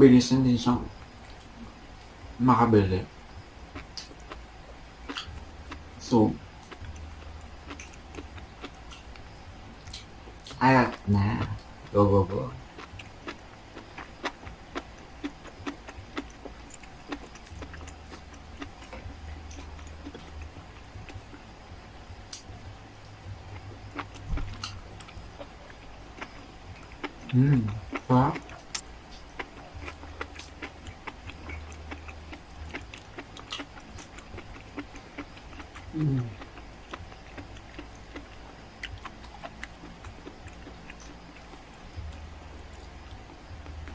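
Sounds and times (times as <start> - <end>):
low steady hum: 0.0 - 43.9
person chewing with mouth clicks: 3.8 - 4.4, 5.1 - 6.0, 6.6 - 12.0, 12.8 - 43.9.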